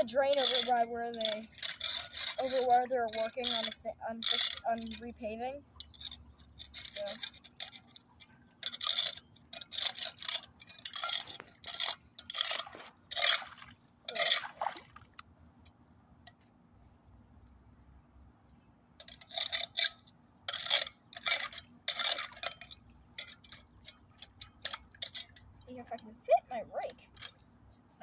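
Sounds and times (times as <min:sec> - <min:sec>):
rake scraping metal grate: 0:00.0 - 0:15.2, 0:19.0 - 0:27.8.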